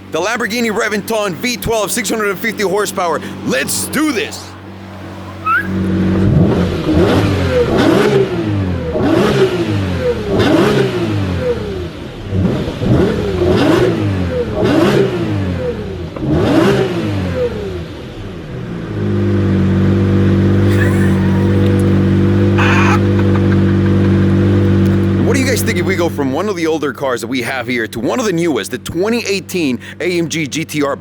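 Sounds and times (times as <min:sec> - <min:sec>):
car engine revving and idling: 0:00.0 - 0:31.0.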